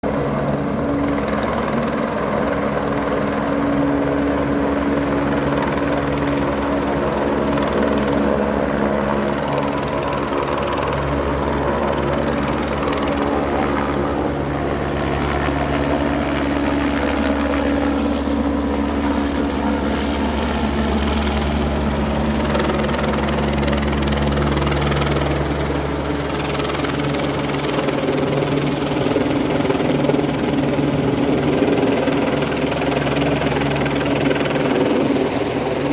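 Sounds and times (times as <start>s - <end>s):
helicopter rotor and engine: 0.0s - 35.9s.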